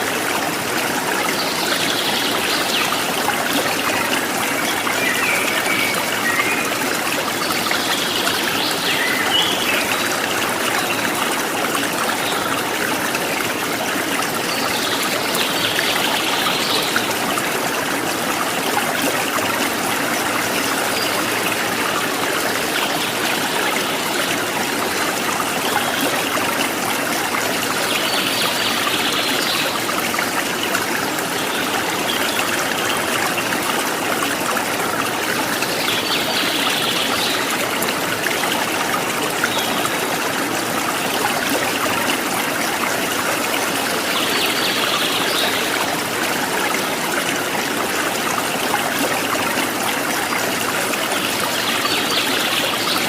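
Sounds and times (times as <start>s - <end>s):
stream running: 0.0s - 53.0s.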